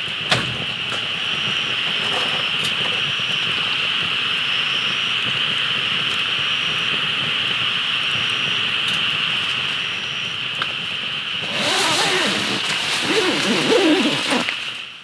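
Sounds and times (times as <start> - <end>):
traffic hiss on nearby road: 0.0 - 15.0.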